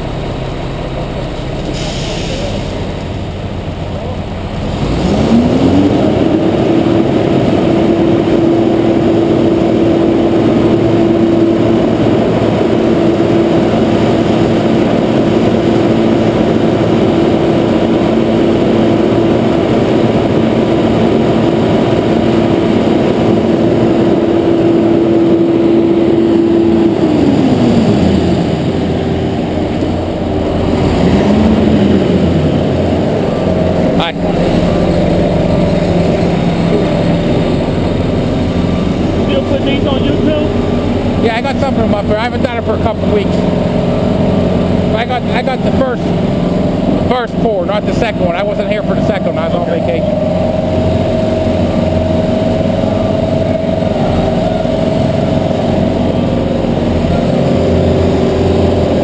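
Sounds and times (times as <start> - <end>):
diesel engine at high revs: 0.0 - 59.0.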